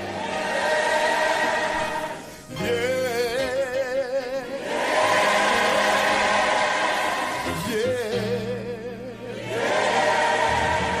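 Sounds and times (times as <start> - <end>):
gospel choir singing: 0.0 - 11.0
musical accompaniment: 0.0 - 11.0.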